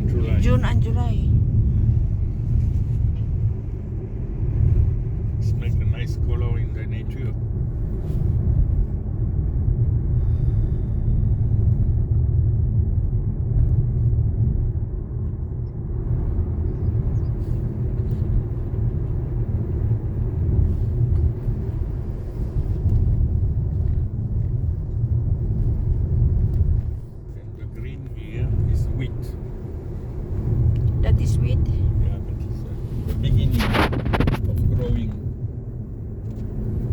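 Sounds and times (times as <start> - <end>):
car interior road rumble: 0.0 - 36.9.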